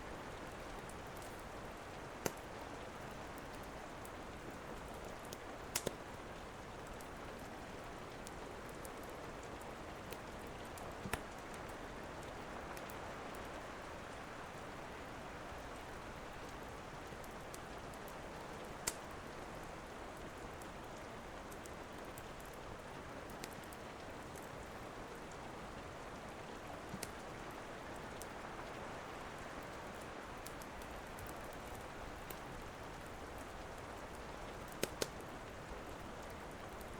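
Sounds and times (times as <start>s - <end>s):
steady rain falling: 0.0s - 36.9s
wood fire crackling: 0.1s - 36.9s.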